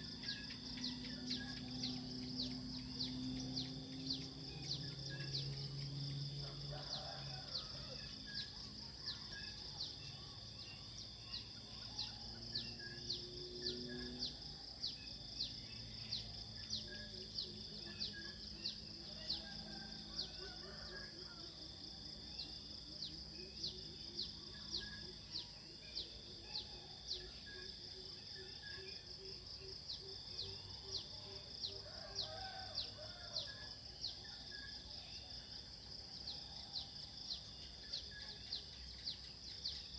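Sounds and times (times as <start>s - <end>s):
insect chirp: 0.0s - 39.9s.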